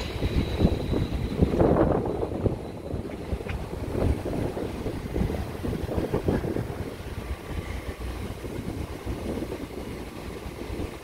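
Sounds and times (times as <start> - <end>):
train rumbling on steel track: 0.0 - 11.0
wind buffeting microphone: 0.0 - 11.0.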